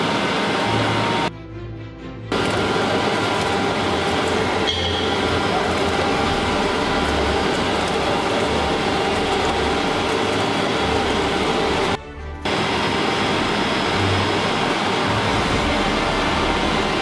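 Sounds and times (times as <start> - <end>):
mill machinery running: 0.0 - 1.3, 2.3 - 17.0
metal paddles turning through paste: 2.3 - 17.0.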